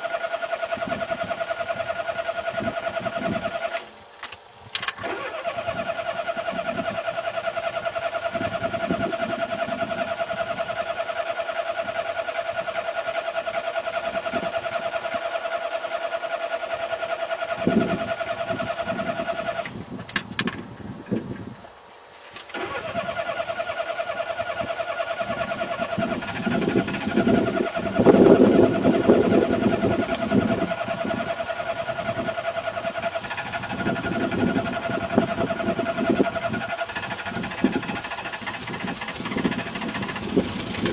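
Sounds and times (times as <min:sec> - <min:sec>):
car engine cranking: 0:00.0 - 0:21.6, 0:22.2 - 0:40.9.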